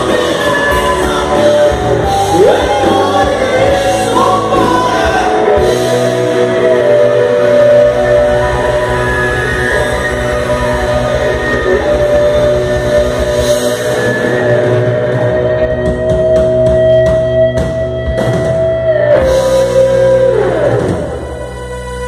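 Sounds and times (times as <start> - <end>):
rock band sustained chords: 0.0 - 22.0.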